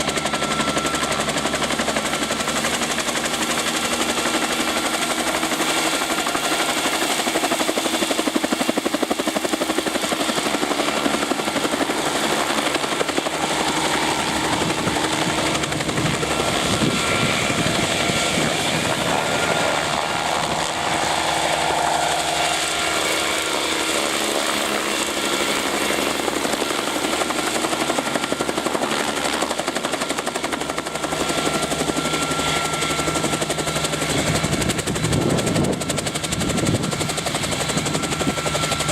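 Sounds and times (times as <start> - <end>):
helicopter rotor chopping: 0.0 - 38.9.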